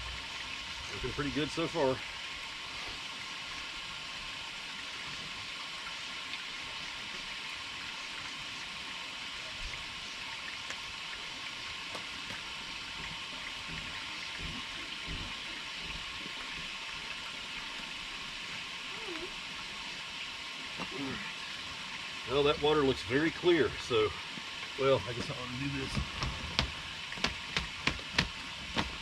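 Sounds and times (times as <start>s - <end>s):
water running through drain hose: 0.0s - 29.0s.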